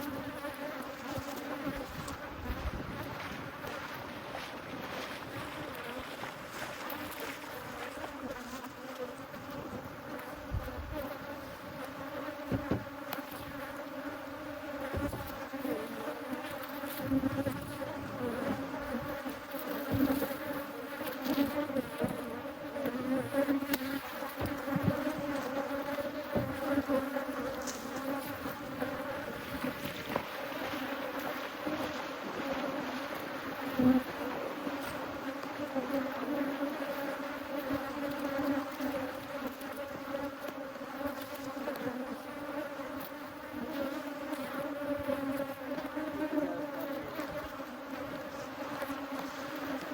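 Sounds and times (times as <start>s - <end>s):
honeybees buzzing: 0.0s - 3.9s, 4.6s - 49.9s.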